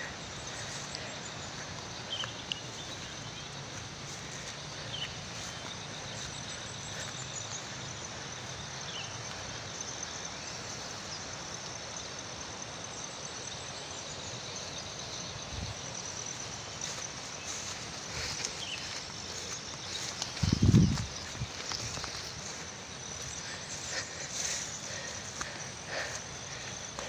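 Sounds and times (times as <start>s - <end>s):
background hiss: 0.0s - 27.0s
insects trilling: 0.0s - 27.0s.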